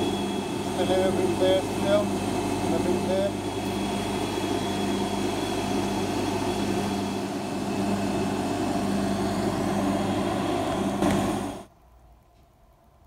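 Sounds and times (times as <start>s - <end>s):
polishing motor humming: 0.0s - 11.7s.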